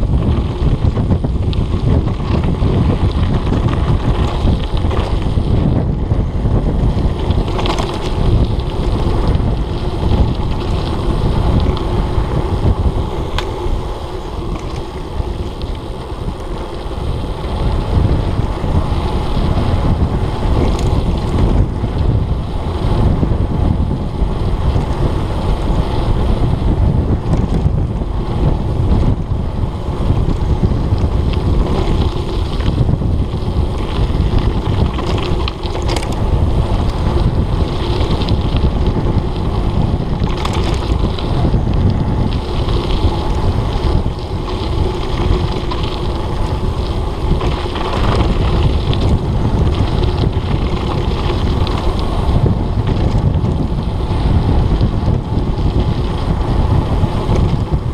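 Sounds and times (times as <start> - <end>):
tyres rumbling on dirt: 0.0 - 57.9
wind buffeting microphone: 0.0 - 57.9.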